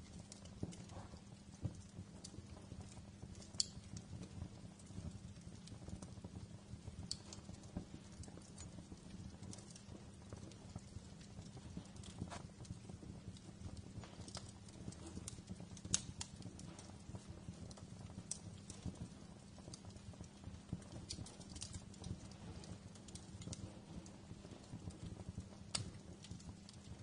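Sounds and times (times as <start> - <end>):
low rumble of burning logs: 0.0 - 27.0
wood fire crackling and popping: 0.0 - 27.0.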